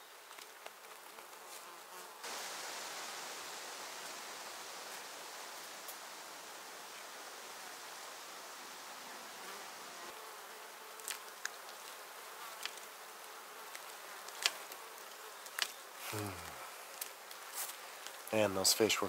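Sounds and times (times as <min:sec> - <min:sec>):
faint steady hiss: 0:00.0 - 0:19.0
fly buzzing: 0:00.1 - 0:18.3.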